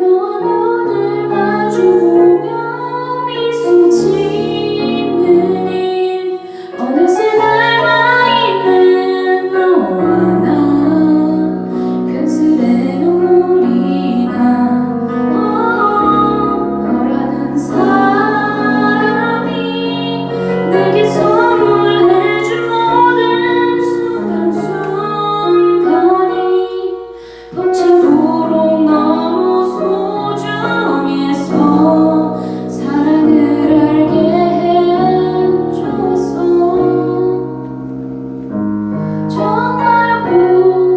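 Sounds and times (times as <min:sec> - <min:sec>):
woman singing a ballad: 0:00.0 - 0:37.7, 0:39.1 - 0:40.9
instrumental accompaniment: 0:00.0 - 0:40.9.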